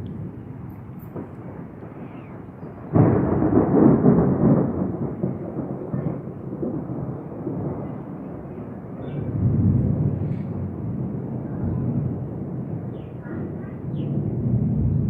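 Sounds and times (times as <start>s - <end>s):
thunder clap and rumble: 0.0s - 15.0s.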